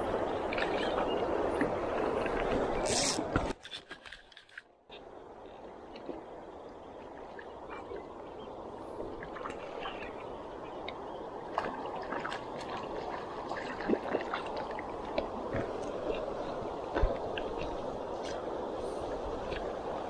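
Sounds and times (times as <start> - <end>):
shallow river rushing: 0.0 - 3.5, 5.2 - 20.0.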